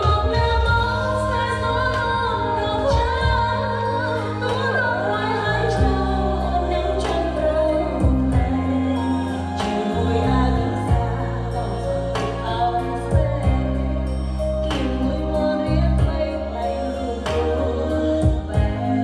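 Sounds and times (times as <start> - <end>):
held bass notes: 0.0 - 19.0
woman singing: 0.0 - 19.0.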